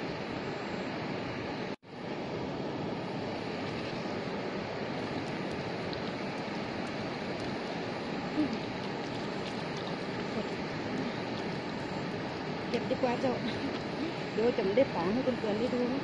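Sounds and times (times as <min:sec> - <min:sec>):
river water: 0:01.9 - 0:16.0.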